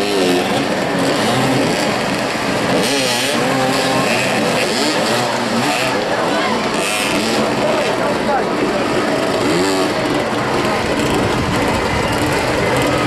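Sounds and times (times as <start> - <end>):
motorcycles revving: 0.0 - 13.0.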